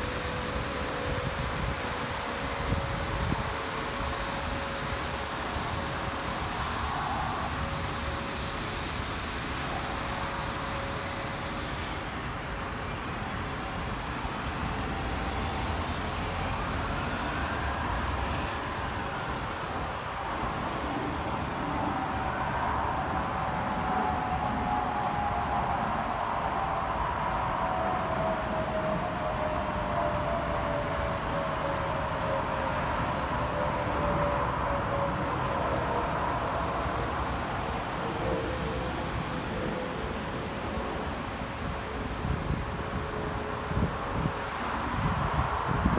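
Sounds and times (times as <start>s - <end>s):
bus engine whining: 0.0s - 45.9s
traffic hum: 0.0s - 45.9s.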